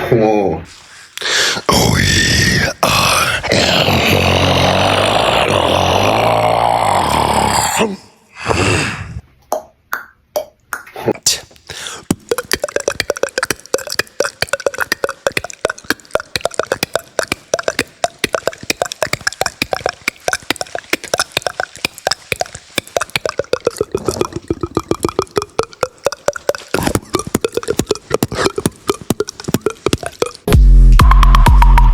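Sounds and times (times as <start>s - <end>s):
beatboxing: 0.7s - 7.8s, 10.8s - 31.9s.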